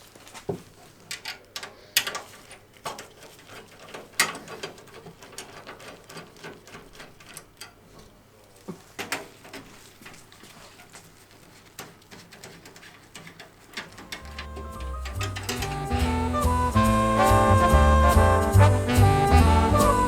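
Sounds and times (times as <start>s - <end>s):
computer parts clicking and scraping: 0.8s - 17.7s.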